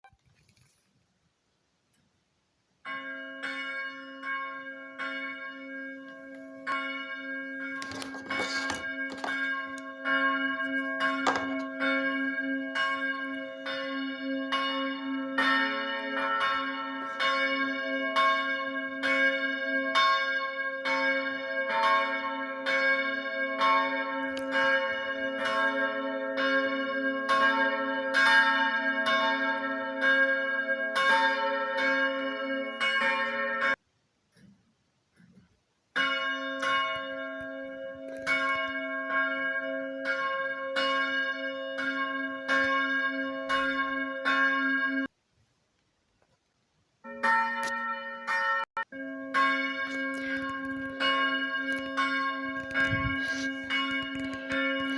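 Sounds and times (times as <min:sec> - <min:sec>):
deeper church bell: 0:02.8 - 0:33.8, 0:35.9 - 0:45.1, 0:47.0 - 0:54.9
church bell striking: 0:02.9 - 0:33.8, 0:35.9 - 0:45.1, 0:47.0 - 0:54.9.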